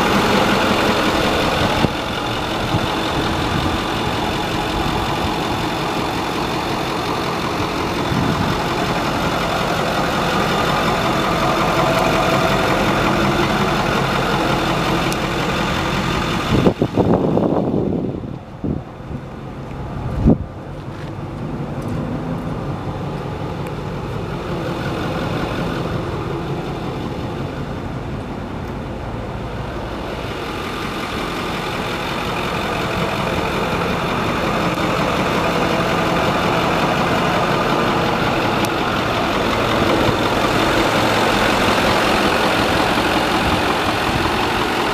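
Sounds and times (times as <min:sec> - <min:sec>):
truck engine idling: 0:00.0 - 0:44.9.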